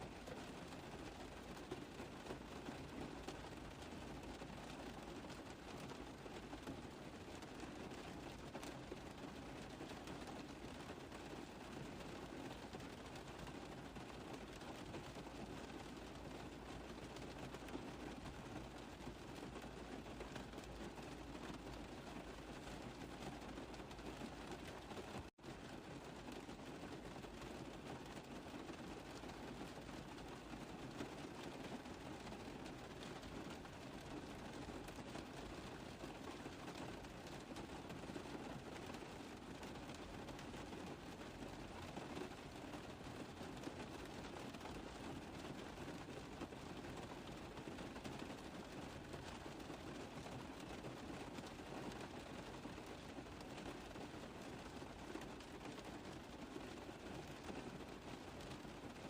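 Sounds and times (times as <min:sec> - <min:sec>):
rain tapping on car roof: 0:00.0 - 0:59.0.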